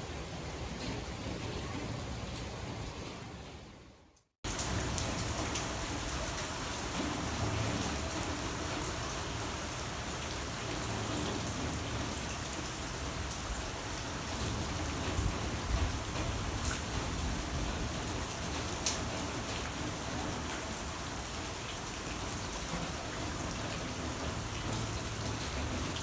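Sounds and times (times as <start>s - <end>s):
steady rain falling: 4.4s - 26.0s.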